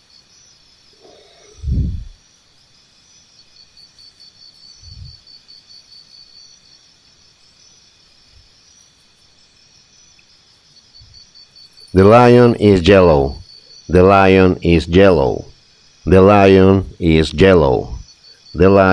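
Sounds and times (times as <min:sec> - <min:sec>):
insect chirping: 0:00.0 - 0:18.9.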